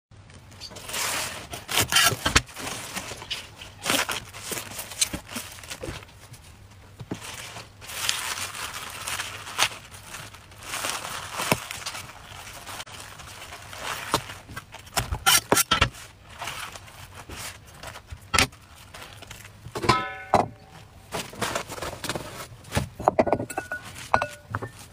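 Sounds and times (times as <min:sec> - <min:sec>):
onion stalks rustling and crackling: 0:00.4 - 0:22.9.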